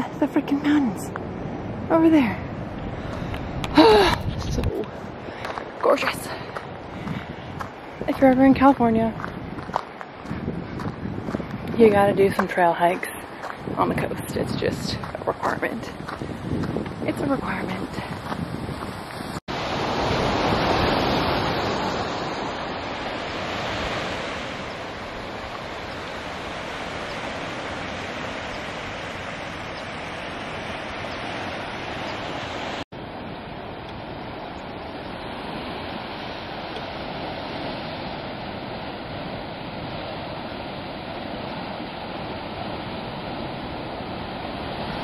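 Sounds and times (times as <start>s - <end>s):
ocean surf on pebbly shore: 0.0s - 45.0s
wind on microphone: 0.0s - 45.0s.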